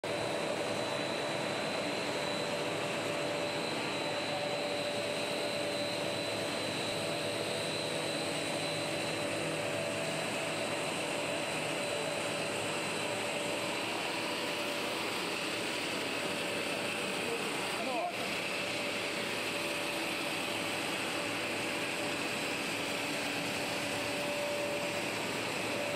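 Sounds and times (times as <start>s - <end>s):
high whining motors: 0.1s - 25.9s
machinery whirring hum: 0.1s - 25.9s.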